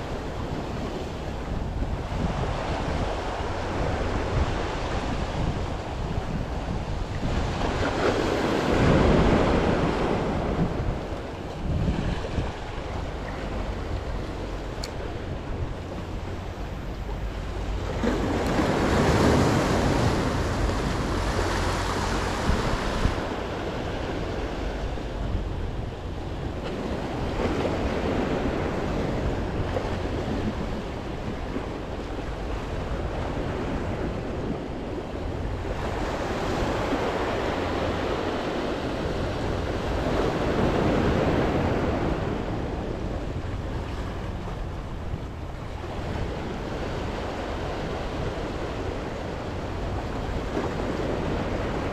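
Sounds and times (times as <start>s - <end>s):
sea waves washing against rocks: 0.0s - 51.9s
wind buffeting microphone: 0.0s - 51.9s.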